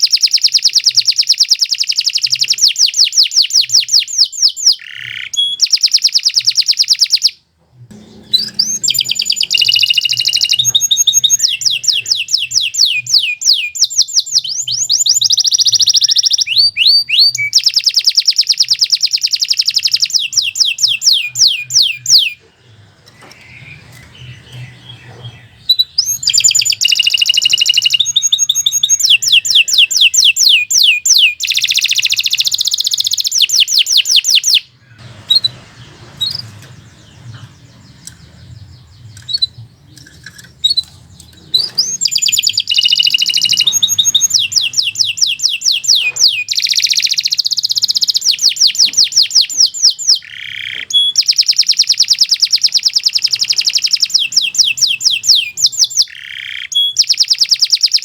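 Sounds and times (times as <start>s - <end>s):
canary single chirps: 0.0s - 7.4s, 8.2s - 22.4s, 23.2s - 58.0s
canary trilling song: 0.0s - 58.0s.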